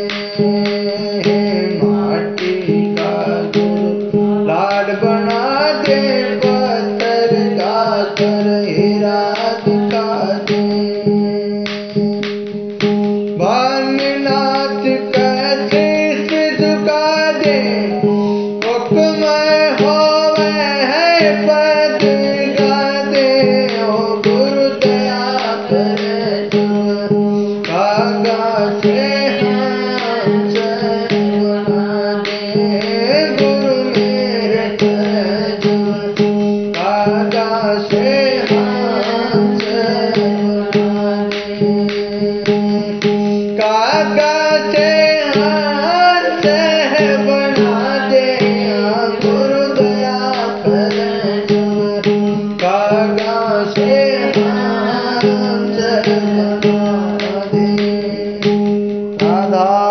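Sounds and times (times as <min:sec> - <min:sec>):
devotional melody: 0:00.0 - 0:59.9
drum strokes: 0:00.0 - 0:59.9.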